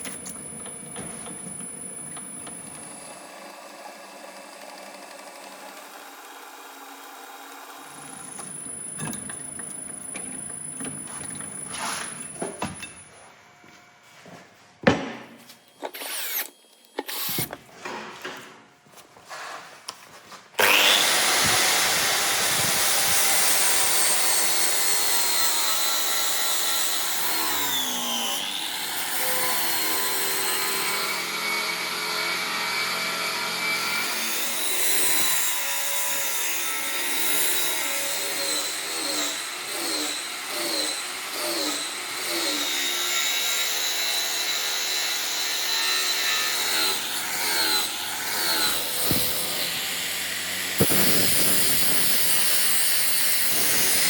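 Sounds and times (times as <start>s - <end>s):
power grinder grinding steel: 0.0s - 13.1s, 15.8s - 17.6s, 20.6s - 54.0s.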